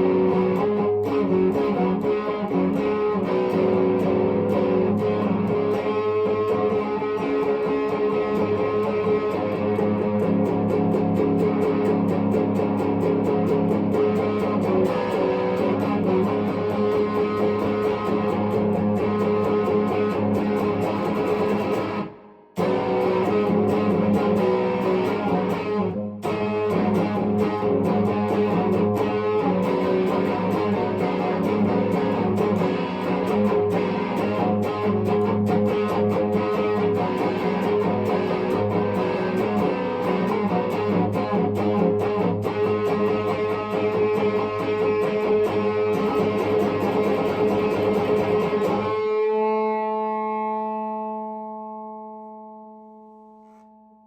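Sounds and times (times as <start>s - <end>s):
electric guitar playing: 0.0s - 53.6s.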